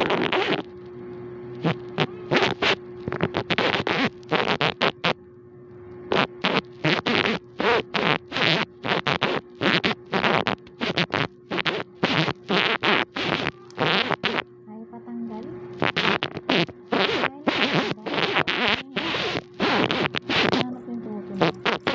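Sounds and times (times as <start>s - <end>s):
fur scratching on microphone: 0.0s - 0.6s, 1.6s - 5.1s, 6.2s - 14.4s, 15.8s - 20.7s, 21.4s - 21.9s
low hum: 0.0s - 12.6s, 13.4s - 21.9s.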